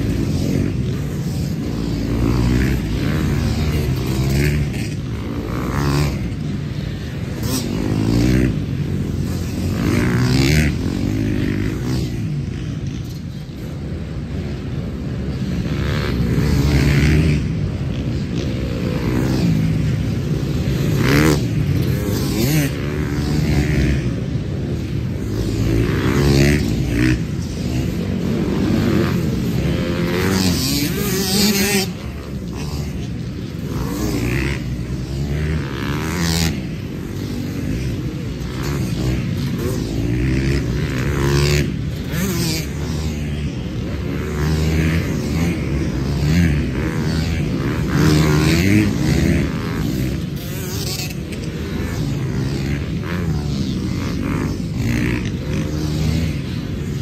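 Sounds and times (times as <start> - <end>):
dirt bikes revving past: 0.0 - 57.0
engines running in background: 0.0 - 57.0.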